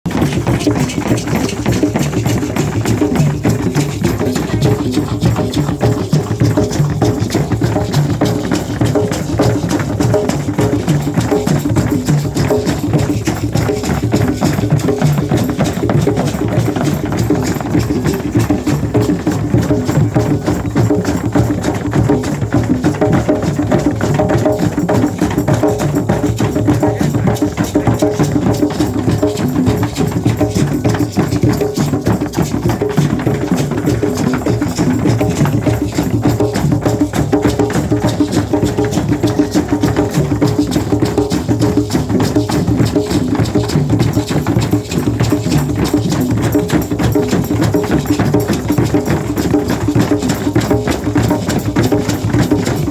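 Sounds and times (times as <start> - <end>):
hand drum beating: 0.0 - 52.9.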